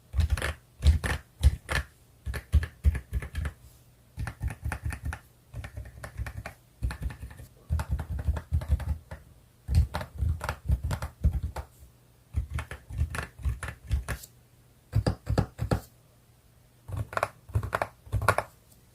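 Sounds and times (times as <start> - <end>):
damped mechanical keyboard typing: 0.1 - 3.6, 4.2 - 11.7, 12.3 - 14.2, 14.9 - 15.8, 16.9 - 18.5.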